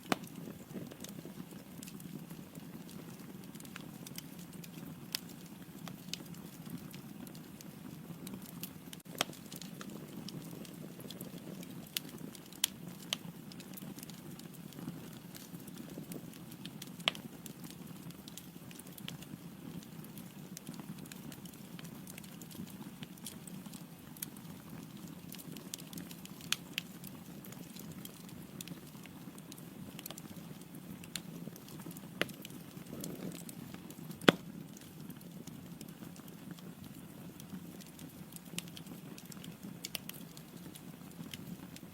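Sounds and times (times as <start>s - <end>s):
fire rumbling: 0.0s - 41.9s
wood crackling and popping: 0.0s - 41.9s.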